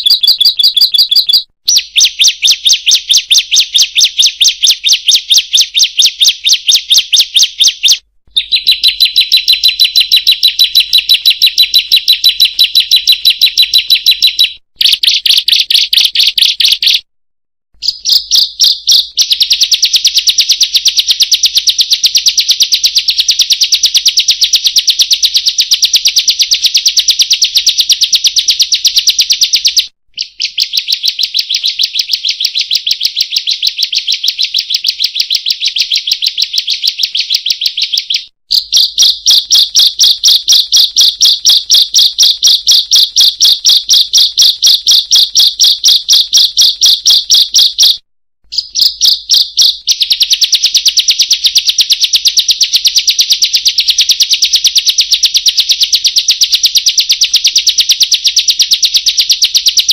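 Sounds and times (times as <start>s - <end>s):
songbird sharp repeated calls: 0.0s - 17.0s, 17.8s - 52.6s.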